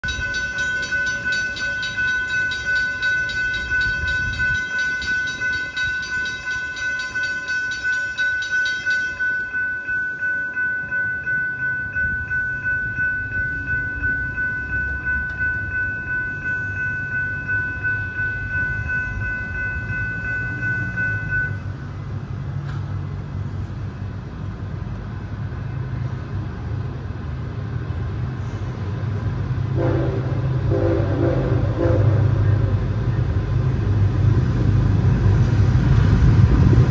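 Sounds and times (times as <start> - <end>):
crossing warning bell ringing: 0.0 - 36.7
low rumble of train: 0.0 - 36.9.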